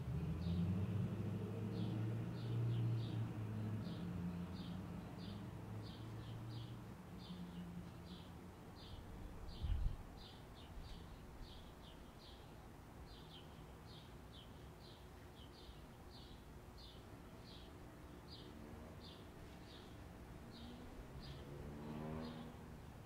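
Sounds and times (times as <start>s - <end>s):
bird chirping: 1.7s - 22.5s.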